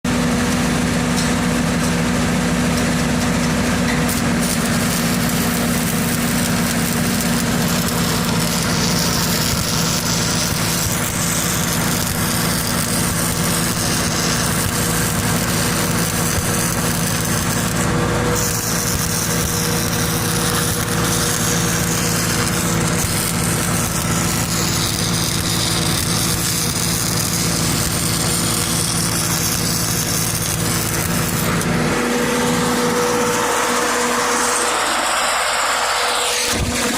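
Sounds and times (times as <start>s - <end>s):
welder engine running: 0.1s - 36.9s
crackling welding arc: 0.6s - 36.9s.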